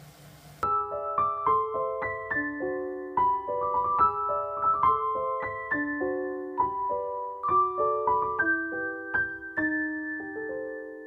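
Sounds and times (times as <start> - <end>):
piano music: 0.6 - 11.0.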